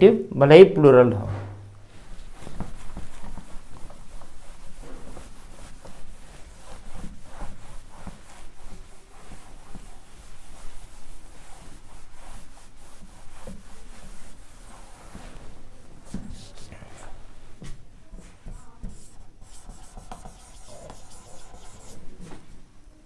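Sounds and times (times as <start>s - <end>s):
eraser rubbing on whiteboard: 2.1s - 17.2s, 18.1s - 22.2s.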